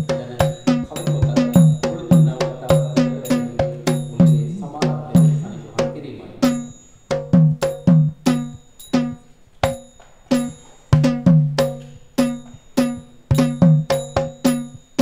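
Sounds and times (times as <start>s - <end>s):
hand drum strokes: 0.0s - 15.0s.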